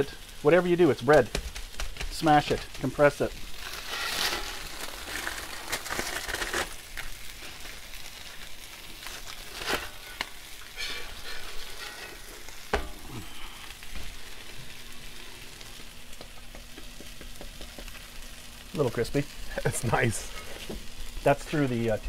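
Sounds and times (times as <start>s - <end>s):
food sizzling on a griddle: 0.0s - 22.0s.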